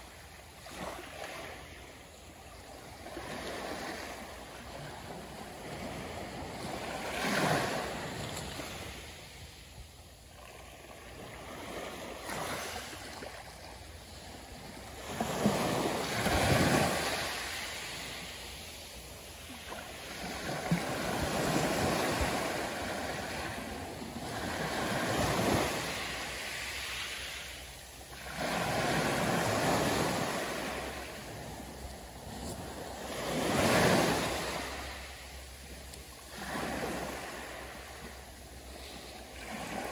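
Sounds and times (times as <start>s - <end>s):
small waves lapping on beach: 0.0s - 39.9s.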